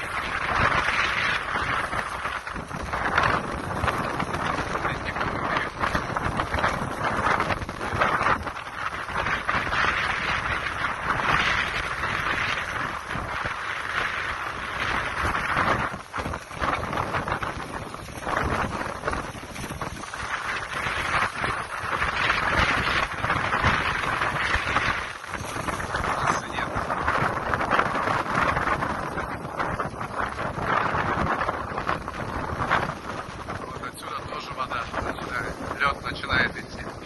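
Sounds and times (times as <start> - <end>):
low rumble: 0.0 - 37.0
strong wind buffeting microphone: 0.0 - 37.0.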